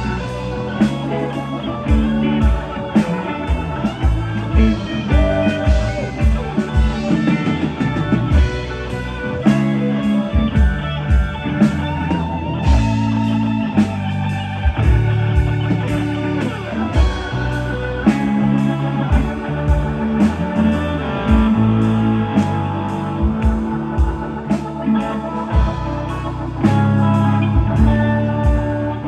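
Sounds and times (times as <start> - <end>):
gliding guitar notes: 0.0 - 29.0
rock band playing: 0.0 - 29.0.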